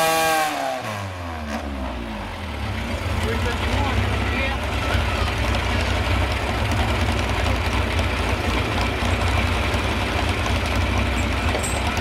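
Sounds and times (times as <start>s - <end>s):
tractor engine idling: 1.8s - 12.0s.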